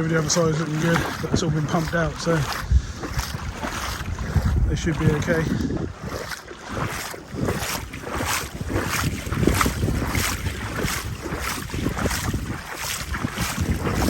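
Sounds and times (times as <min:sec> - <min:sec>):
footsteps splashing through water: 0:00.0 - 0:14.0
wind buffeting microphone: 0:00.0 - 0:14.0.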